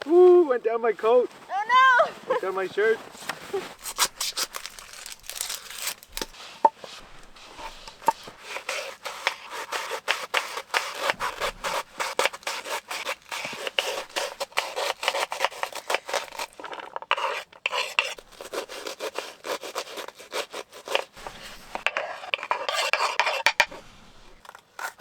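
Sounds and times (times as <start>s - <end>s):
knife scraping board: 3.2s - 25.0s
knife cutting on cutting board: 3.7s - 25.0s.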